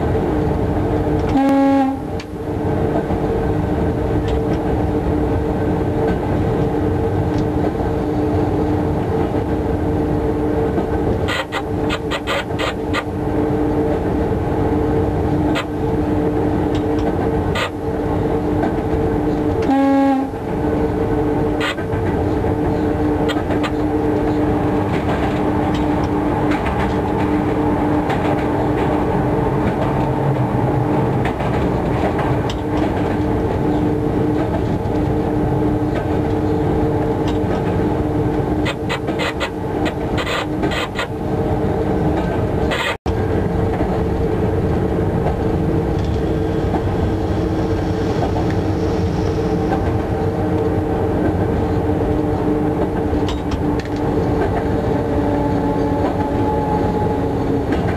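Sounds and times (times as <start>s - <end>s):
rumble of wheels on track: 0.0s - 57.9s
two-note locomotive hum: 0.0s - 57.9s.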